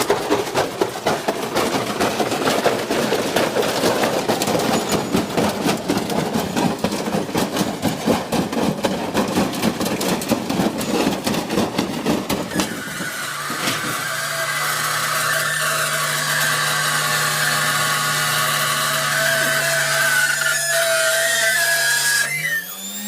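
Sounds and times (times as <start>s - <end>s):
motor hum: 0.0s - 23.0s.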